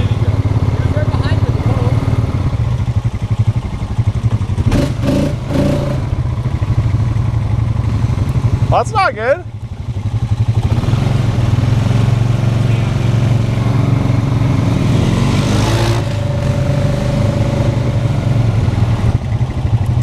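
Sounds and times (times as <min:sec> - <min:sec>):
quad engine revving: 0:00.0 - 0:09.2, 0:09.9 - 0:20.0.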